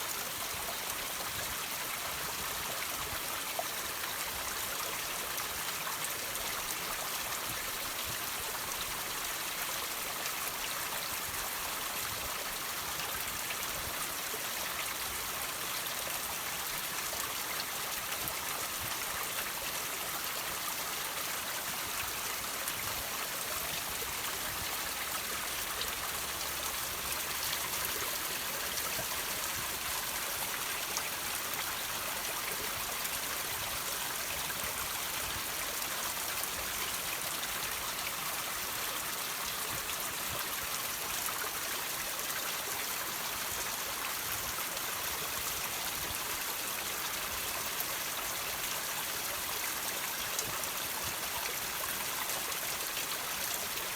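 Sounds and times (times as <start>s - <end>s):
water trickling over rocks: 0.0s - 53.9s.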